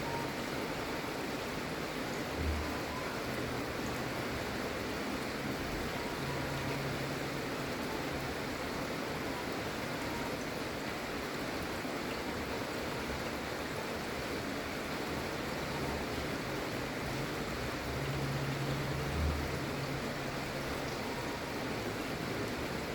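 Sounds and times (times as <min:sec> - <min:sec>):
gentle steady rain: 0:00.0 - 0:22.9.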